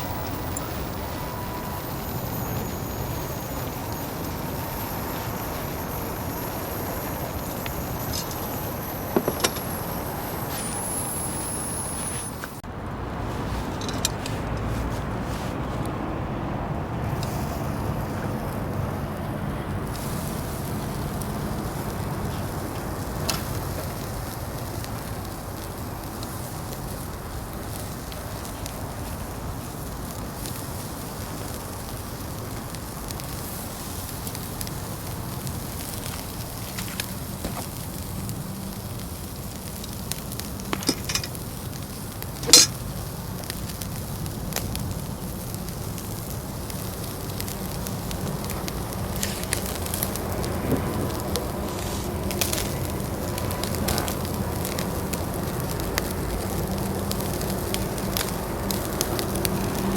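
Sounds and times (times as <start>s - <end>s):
food sizzling on a grill: 0.0s - 12.6s, 17.0s - 59.9s
sharp pops from fire: 0.0s - 12.6s, 19.8s - 59.9s
fire crackling: 0.0s - 59.9s.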